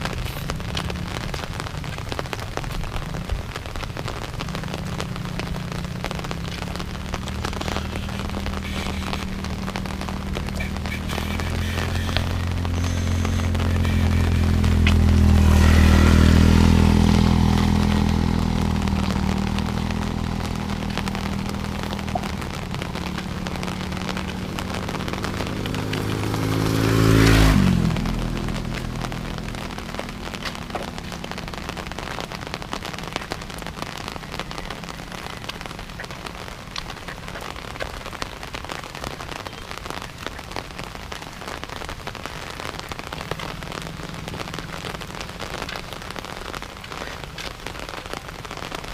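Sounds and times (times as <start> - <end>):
rain drops ticking: 0.0 - 48.9
steady rain falling: 0.0 - 48.9
vehicle passing: 3.6 - 38.2, 40.6 - 48.7.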